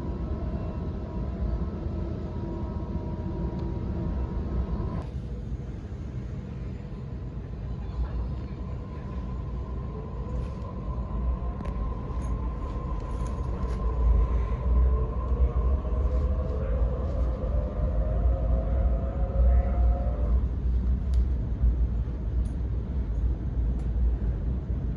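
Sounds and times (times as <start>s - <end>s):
low rumble of running train: 0.0s - 24.9s.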